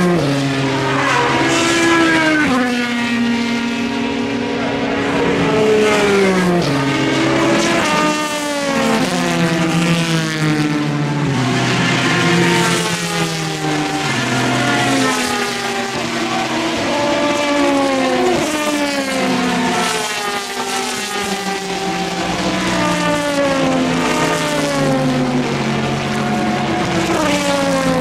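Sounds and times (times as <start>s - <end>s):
race cars passing: 0.0s - 28.0s.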